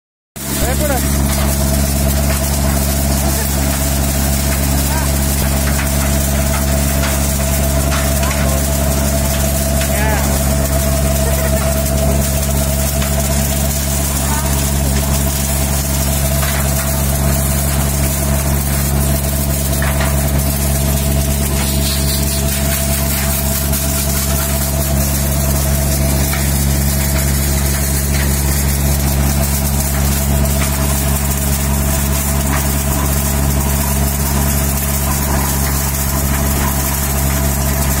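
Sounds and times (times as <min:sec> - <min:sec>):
maize thresher running: 0:00.4 - 0:38.0
tractor engine drone: 0:00.4 - 0:38.0.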